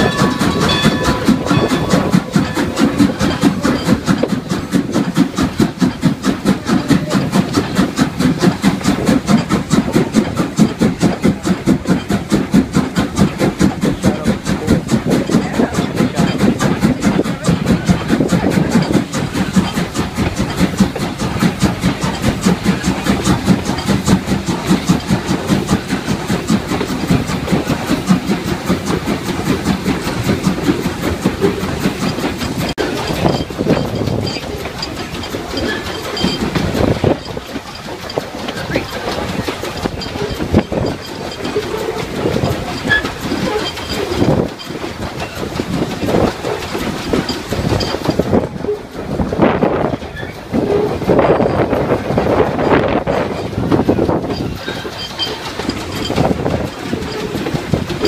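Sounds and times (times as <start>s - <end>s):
steam train rumbling: 0.0s - 58.0s.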